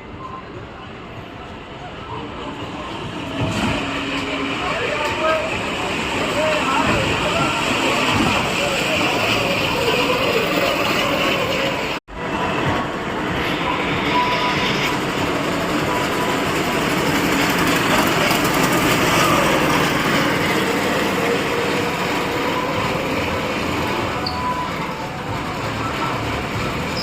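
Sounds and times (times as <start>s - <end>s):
loud event noise: 2.2s - 27.0s
vehicle engines running: 2.6s - 27.0s.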